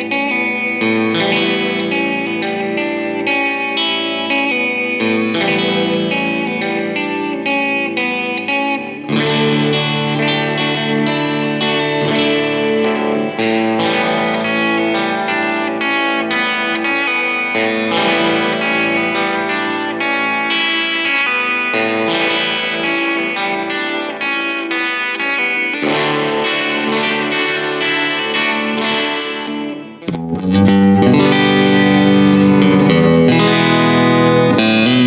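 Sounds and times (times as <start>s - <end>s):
electric guitar playing: 0.0s - 35.0s.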